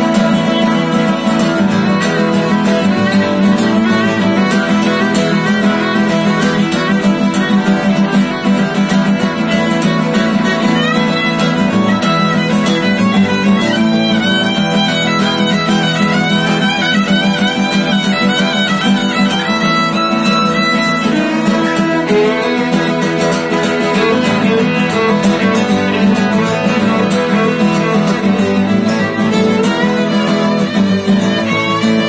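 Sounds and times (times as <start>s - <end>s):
fiddle: 0.0s - 32.0s
guitar: 0.0s - 32.0s.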